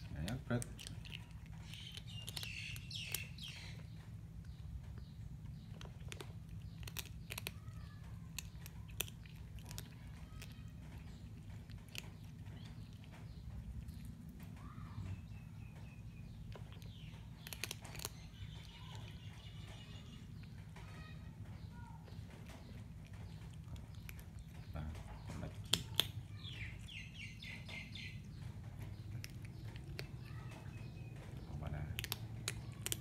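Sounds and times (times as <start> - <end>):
kitten chewing and licking: 0.0 - 33.0.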